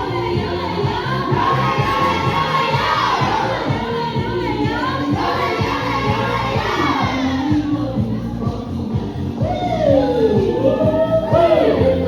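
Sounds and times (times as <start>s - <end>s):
crowd noise: 0.0s - 12.0s
group singing: 0.0s - 12.0s
music with steady beat: 0.0s - 12.0s.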